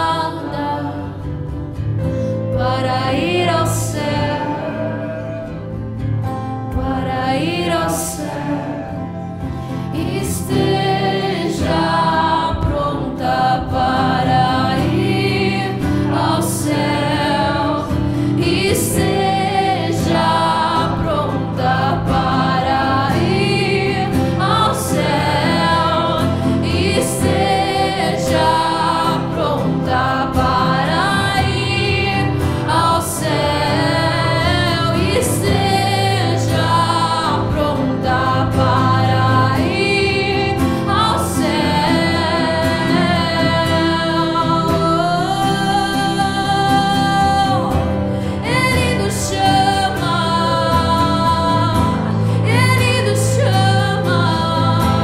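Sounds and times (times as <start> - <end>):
woman singing: 0.0 - 1.6, 2.3 - 6.0, 6.7 - 55.0
acoustic guitar: 0.0 - 55.0
keyboard: 0.0 - 55.0.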